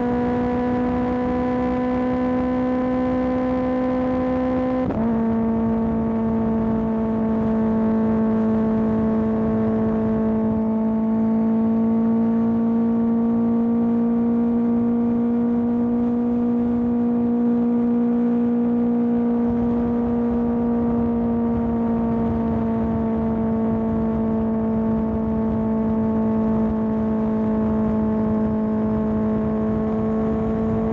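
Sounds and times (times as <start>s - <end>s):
motorcycle engine at steady revs: 0.0s - 30.9s.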